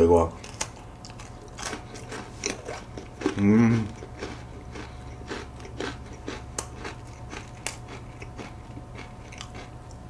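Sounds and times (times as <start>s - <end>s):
chewing crunchy cookie: 0.3s - 10.0s.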